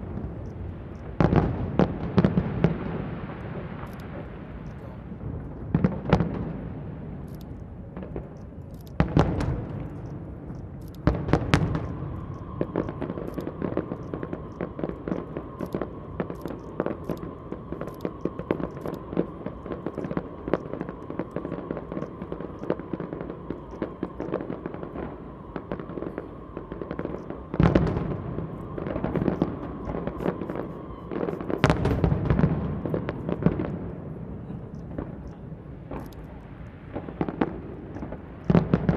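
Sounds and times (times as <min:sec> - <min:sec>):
fireworks booms: 0:00.0 - 0:38.9
fireworks crackling and popping: 0:00.0 - 0:38.9.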